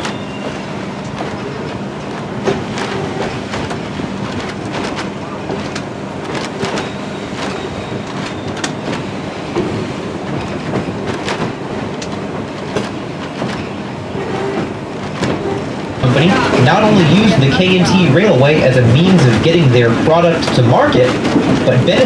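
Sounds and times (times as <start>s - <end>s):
train rumble: 0.0s - 22.0s
wheels clicking over rail joints: 0.0s - 22.0s.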